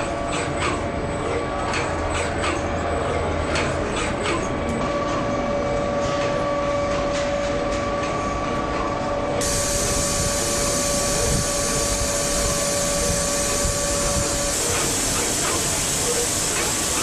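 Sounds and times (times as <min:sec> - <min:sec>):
machinery whirring and whining: 0:00.0 - 0:17.0.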